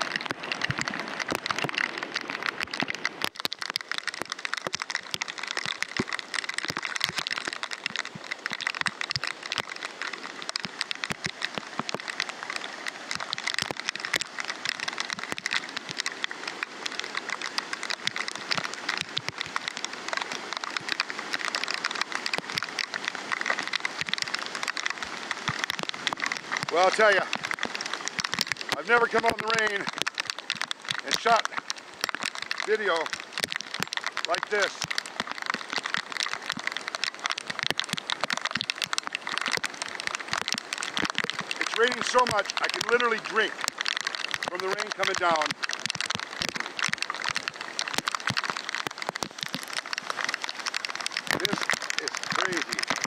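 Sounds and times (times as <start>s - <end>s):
floodwater rushing: 0.0s - 53.0s
torrential rain: 0.0s - 53.0s.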